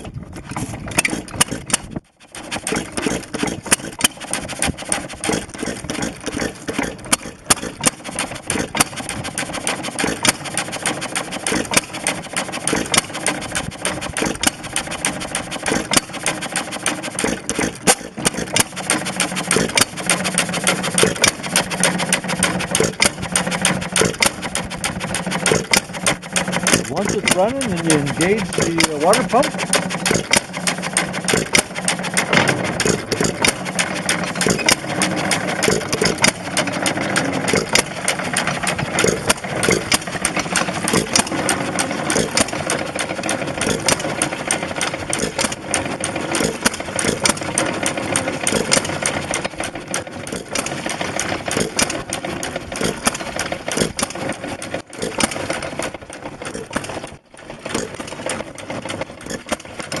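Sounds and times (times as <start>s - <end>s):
single-cylinder engine clattering: 0.0s - 60.0s.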